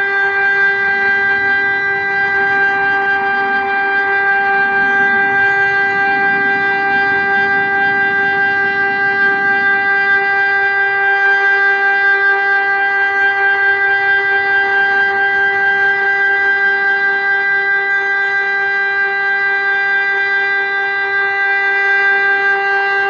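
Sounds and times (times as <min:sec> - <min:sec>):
steady electronic siren tone: 0:00.0 - 0:23.0.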